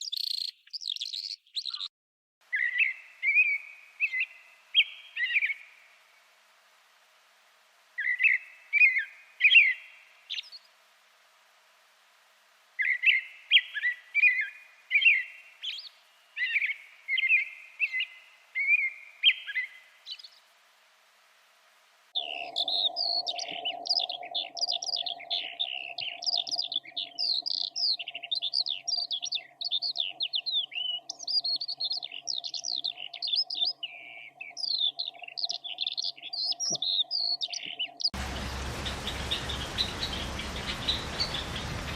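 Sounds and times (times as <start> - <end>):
songbird high twittering: 0.0 - 1.9, 2.5 - 5.8, 8.0 - 10.6, 12.8 - 20.4, 22.2 - 41.9.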